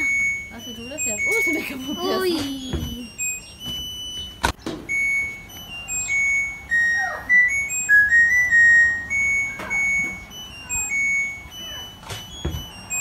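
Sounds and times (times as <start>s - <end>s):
simple high tune of held notes: 0.0s - 13.0s.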